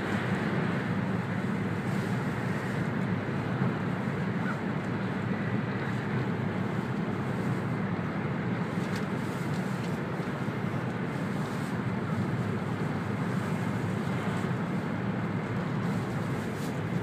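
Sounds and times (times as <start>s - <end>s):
train running at speed: 0.0s - 17.0s.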